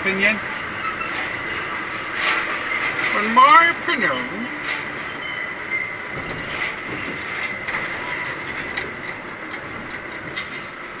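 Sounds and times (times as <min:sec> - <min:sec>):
lorry engine and road noise: 0:00.0 - 0:11.0.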